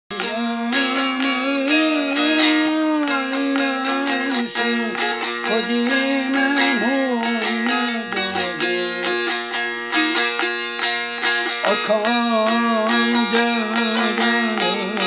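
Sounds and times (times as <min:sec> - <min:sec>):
plucked string instrument: 0:00.1 - 0:15.0
sliding held melody line: 0:00.1 - 0:15.0.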